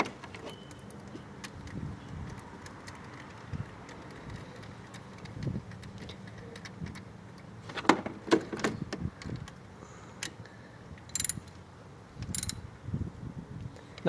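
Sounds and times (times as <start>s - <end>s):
engine parts clicking and knocking: 0.0s - 10.4s, 11.0s - 11.6s, 12.2s - 12.7s.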